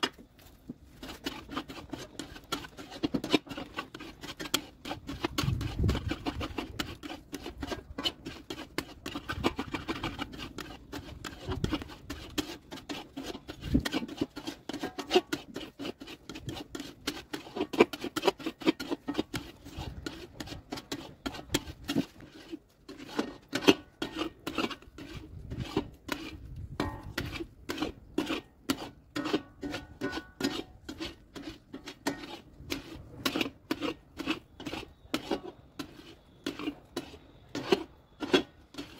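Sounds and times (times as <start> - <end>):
metal spatula scraping iron pan: 1.0 - 38.9.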